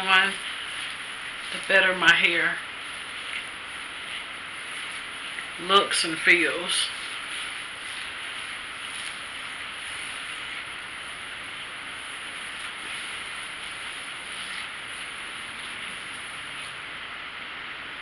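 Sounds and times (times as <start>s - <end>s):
fingers rustling through hair: 0.0s - 16.9s
steady hiss: 0.0s - 18.0s.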